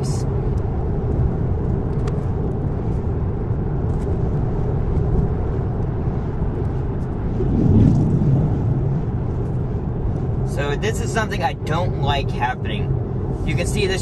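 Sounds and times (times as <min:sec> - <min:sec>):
road and tyre noise in car: 0:00.0 - 0:14.0.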